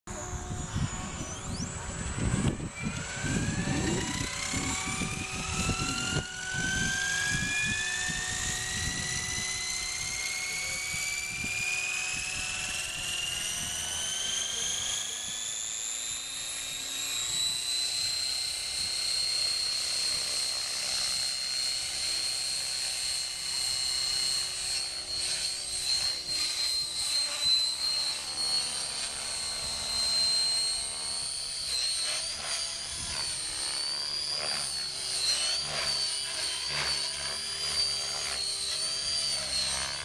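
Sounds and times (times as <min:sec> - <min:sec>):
model helicopter whine: 0:00.1 - 0:40.0.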